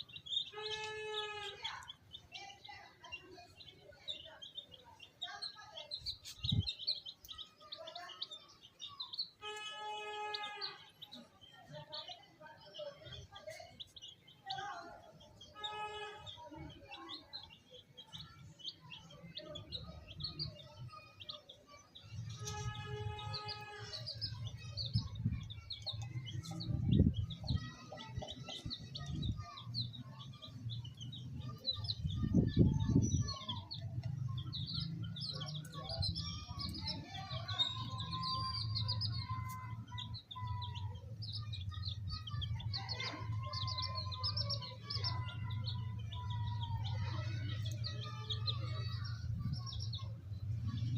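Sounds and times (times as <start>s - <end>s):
baby chicks cheeping: 0.0s - 50.9s.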